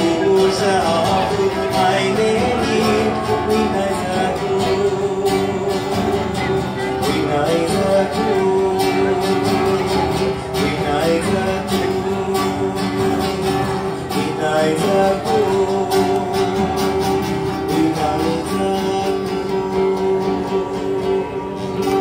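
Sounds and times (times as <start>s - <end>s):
person singing: 0.0s - 22.0s
strummed acoustic guitar: 0.0s - 22.0s.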